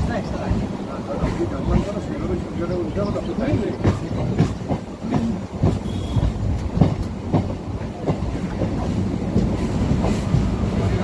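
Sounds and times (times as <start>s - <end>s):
train rumbling: 0.0s - 11.0s
wheels clacking over rail joints: 0.0s - 11.0s.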